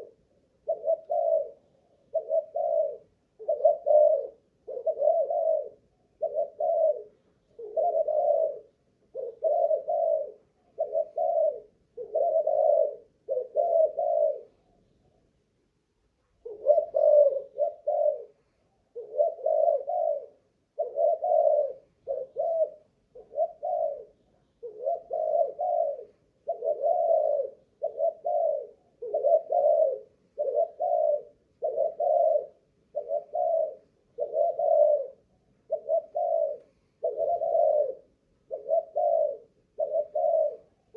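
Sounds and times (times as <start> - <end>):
dove cooing: 0.0 - 14.9, 16.3 - 40.9.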